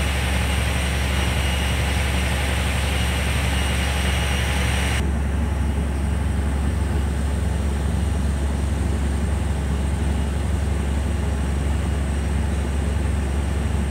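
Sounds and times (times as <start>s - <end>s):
diesel boat engine idling: 0.0s - 13.9s.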